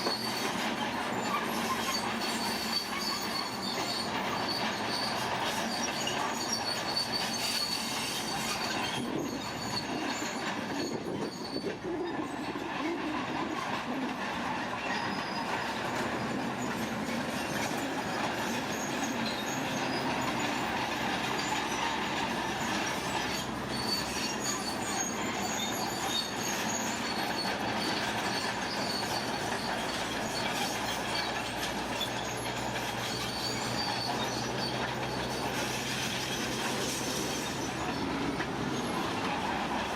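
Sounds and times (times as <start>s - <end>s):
heavy earthmoving machinery: 0.0s - 39.9s.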